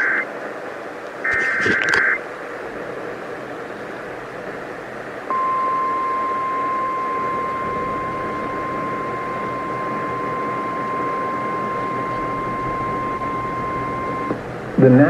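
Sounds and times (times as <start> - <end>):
steady alarm tone: 0.0 - 0.2, 1.2 - 15.0
radio static: 0.0 - 15.0.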